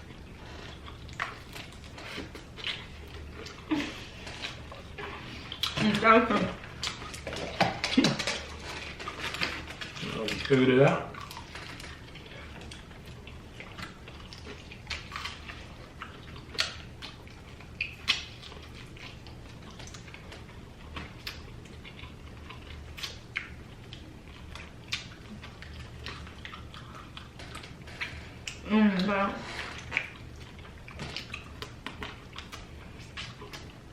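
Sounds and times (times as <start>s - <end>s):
people chewing and lip-smacking: 0.0s - 33.9s
steady low hum: 0.0s - 33.9s.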